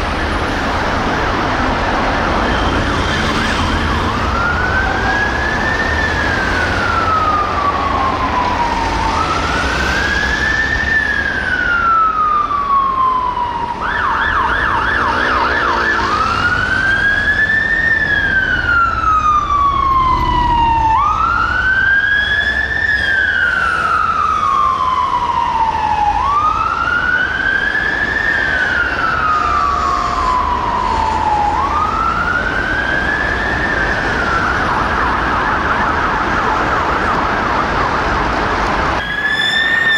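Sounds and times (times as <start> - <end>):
fire engine siren: 0.0 - 39.9
traffic rumble: 0.0 - 39.9.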